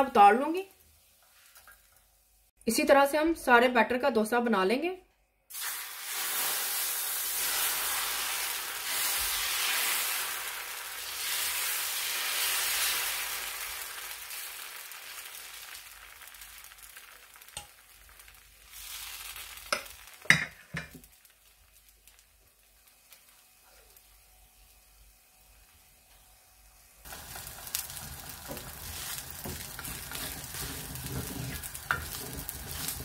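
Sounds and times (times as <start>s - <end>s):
batter sizzling on hot griddle: 5.5s - 33.0s.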